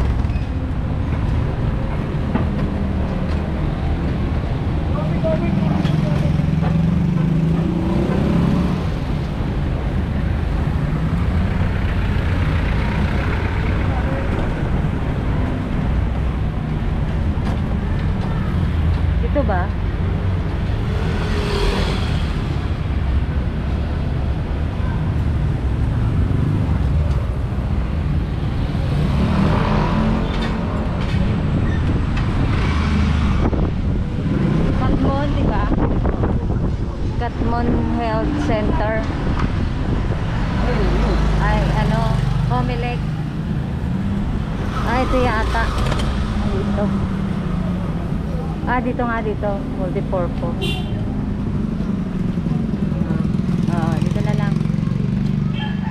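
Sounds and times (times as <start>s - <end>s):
low rumble of tyres and traffic: 0.0s - 55.9s
vehicle engine hum: 0.0s - 55.9s
wind: 0.0s - 55.9s.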